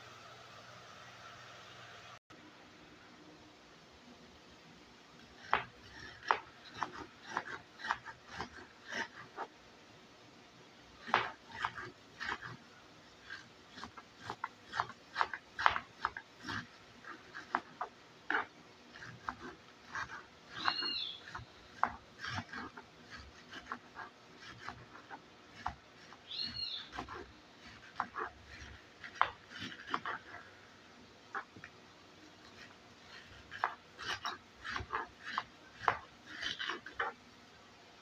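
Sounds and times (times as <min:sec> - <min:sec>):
knife cutting cabbage on board: 0:05.2 - 0:09.5, 0:11.0 - 0:37.4.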